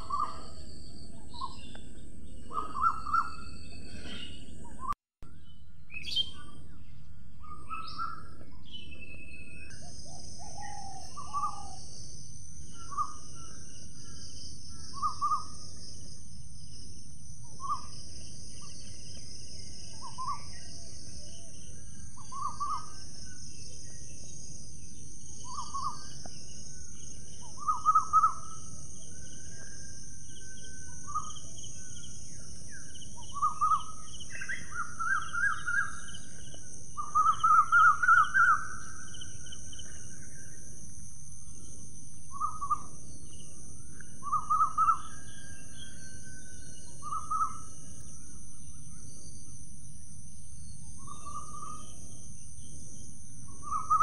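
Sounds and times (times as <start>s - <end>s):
bird calling: 0.0s - 5.0s, 5.9s - 16.0s, 17.4s - 40.7s, 41.5s - 49.4s, 50.9s - 52.2s, 53.0s - 54.0s.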